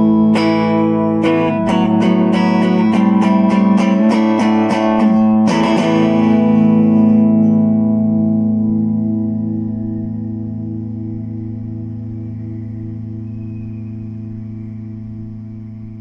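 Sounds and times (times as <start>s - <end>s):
electric guitar notes and chord: 0.0s - 16.0s.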